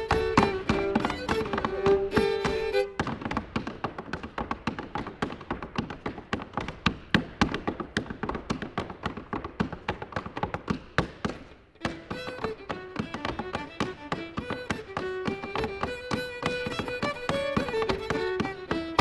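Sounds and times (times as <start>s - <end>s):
clogs tapping on wooden floor: 0.0s - 19.0s.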